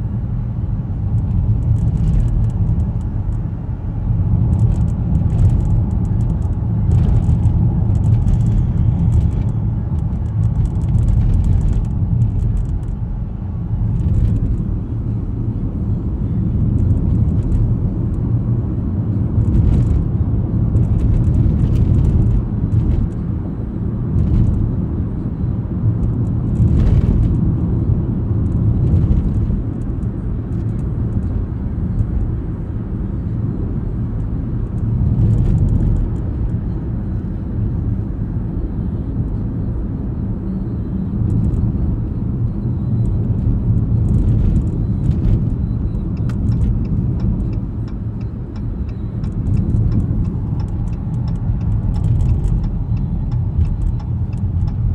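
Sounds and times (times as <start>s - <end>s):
car cabin road and engine rumble: 0.0s - 54.9s.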